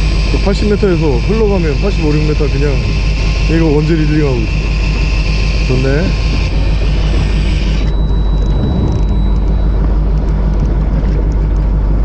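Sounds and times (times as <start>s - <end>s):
boat engine rumbling: 0.0s - 12.0s
wind: 0.0s - 12.0s.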